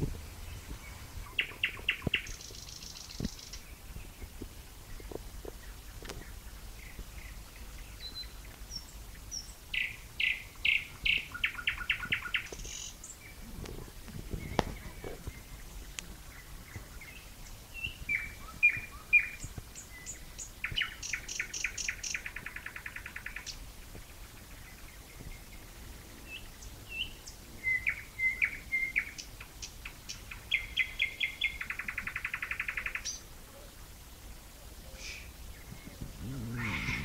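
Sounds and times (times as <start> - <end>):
nightingale singing: 0.4 - 4.2, 4.9 - 13.5, 14.3 - 33.3, 34.8 - 37.0.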